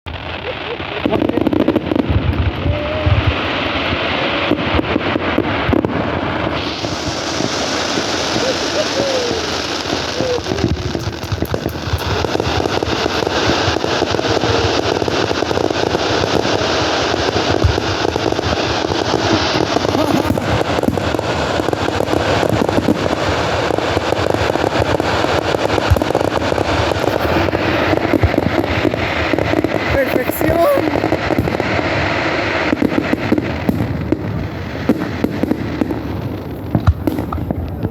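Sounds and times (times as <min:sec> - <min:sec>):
deep firework booms: 0:00.1 - 0:37.9
fireworks crackling: 0:00.1 - 0:37.9.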